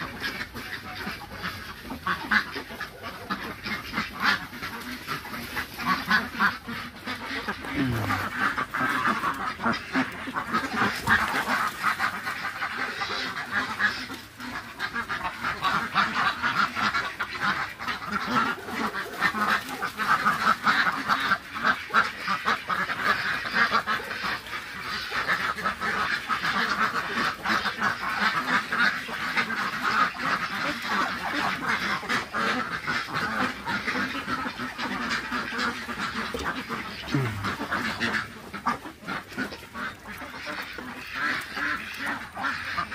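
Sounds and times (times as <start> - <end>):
ducks quacking: 0.0 - 42.9.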